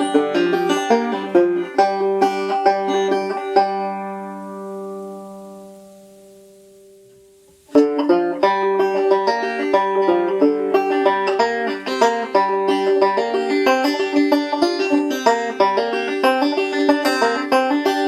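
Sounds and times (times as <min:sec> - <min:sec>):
banjo chord ringing: 0:00.0 - 0:18.0
picked banjo tune: 0:00.0 - 0:18.0.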